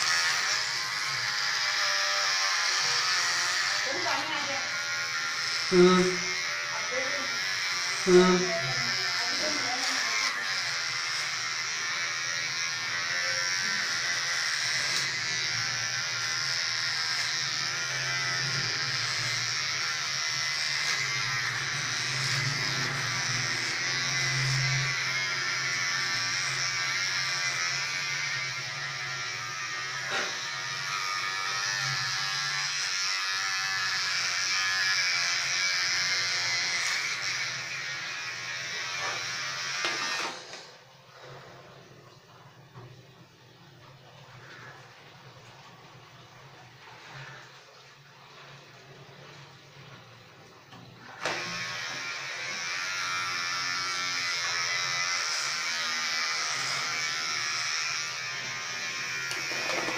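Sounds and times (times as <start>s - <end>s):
electric hair trimmer buzzing: 0.0s - 41.5s, 46.8s - 47.5s, 50.8s - 59.9s.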